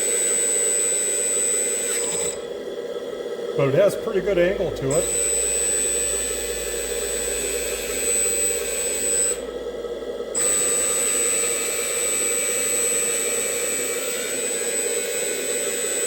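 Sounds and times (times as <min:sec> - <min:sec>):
electric hydraulic pump whining: 0:00.0 - 0:16.0.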